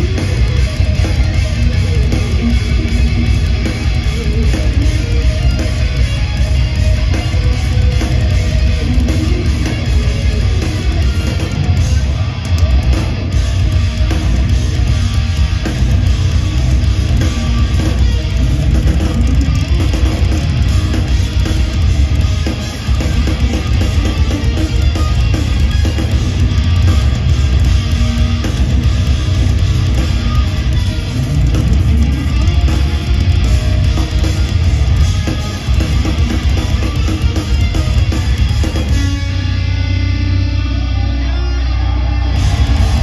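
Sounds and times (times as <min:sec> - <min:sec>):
drum kit: 0:00.0 - 0:41.1, 0:41.7 - 0:43.0
electric guitars: 0:00.0 - 0:43.0.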